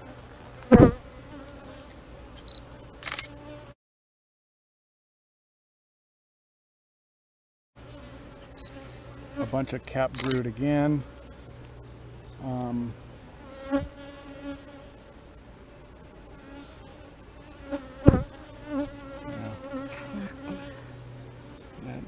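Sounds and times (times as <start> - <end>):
bees buzzing: 0.0 - 3.8, 7.8 - 22.0.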